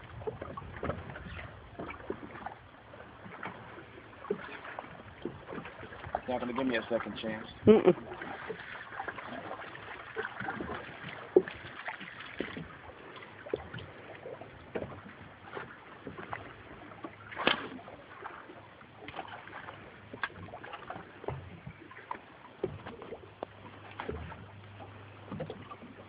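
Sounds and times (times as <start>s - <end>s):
light knocks and clicks of boat: 0.0s - 26.0s.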